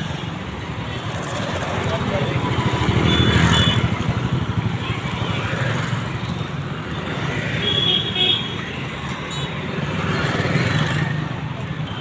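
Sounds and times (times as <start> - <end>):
busy road traffic: 0.0 - 12.0
motorcycles passing: 0.0 - 12.0.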